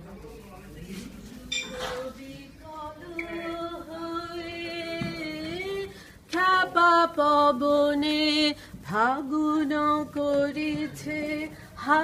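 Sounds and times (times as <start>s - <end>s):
woman singing unaccompanied: 1.8s - 12.0s.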